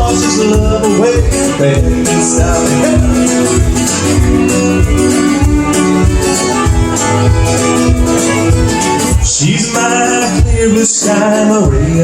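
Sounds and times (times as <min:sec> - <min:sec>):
country band instrumental: 0:00.0 - 0:12.0.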